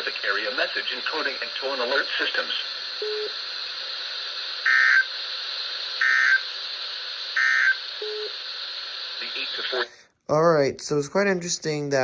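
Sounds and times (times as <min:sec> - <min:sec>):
radio hiss: 0:00.0 - 0:10.1.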